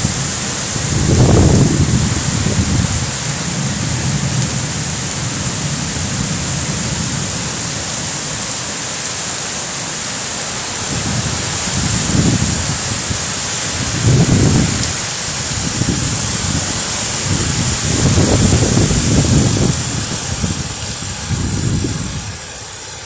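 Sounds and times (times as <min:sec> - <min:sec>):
wind gusts rumbling: 0:00.0 - 0:08.6, 0:10.5 - 0:23.0
heavy rain pouring: 0:00.0 - 0:23.0.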